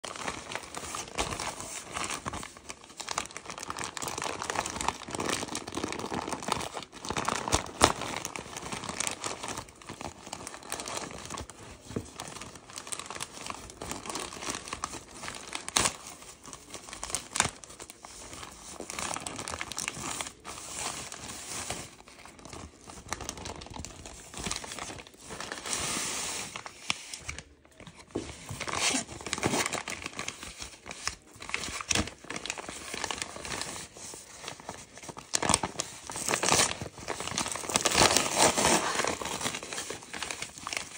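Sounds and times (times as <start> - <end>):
plastic bag crinkling and tearing: 0.0 - 40.9.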